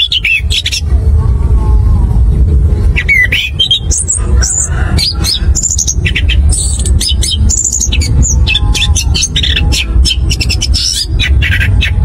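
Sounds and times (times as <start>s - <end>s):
steady low rumble: 0.0s - 12.0s
thrush singing: 0.0s - 12.0s.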